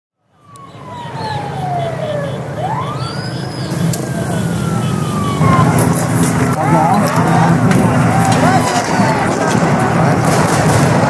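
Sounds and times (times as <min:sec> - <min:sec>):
siren wailing: 0:00.2 - 0:10.5
low engine rumble: 0:00.3 - 0:11.0.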